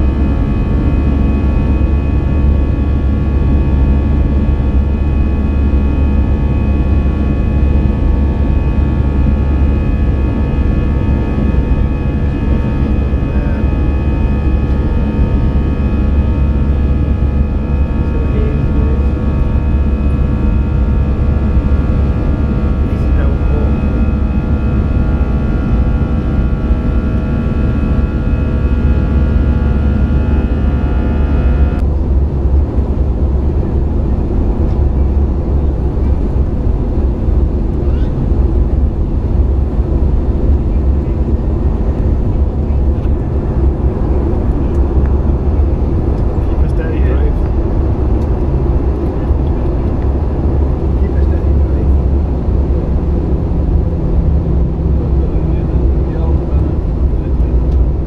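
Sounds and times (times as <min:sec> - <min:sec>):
jet engine cabin rumble: 0:00.0 - 0:58.0
steady whining tones: 0:00.0 - 0:58.0.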